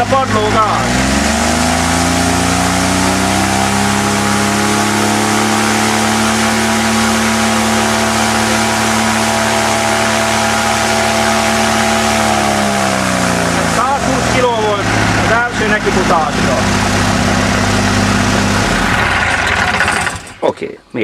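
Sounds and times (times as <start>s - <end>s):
propeller whirr: 0.0s - 20.4s
car engine at full throttle: 0.0s - 20.5s.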